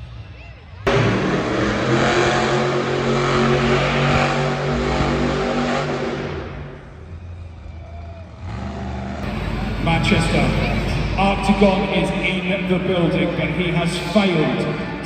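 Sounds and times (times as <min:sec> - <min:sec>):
monster truck engine revving: 0:00.8 - 0:15.0.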